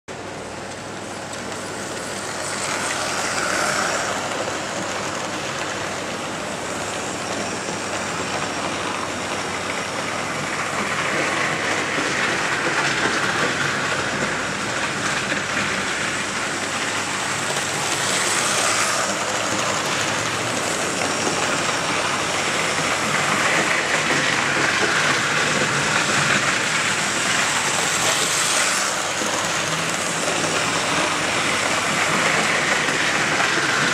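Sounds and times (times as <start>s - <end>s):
model train wheels rattling: 1.3s - 33.9s.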